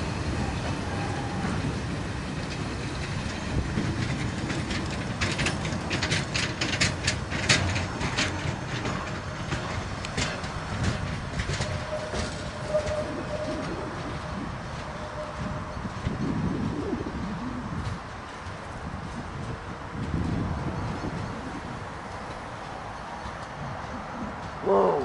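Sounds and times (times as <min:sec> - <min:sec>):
train rumbling past slowly: 0:00.0 - 0:25.0
wheel clicks over rail joints: 0:00.6 - 0:16.4, 0:17.8 - 0:24.6.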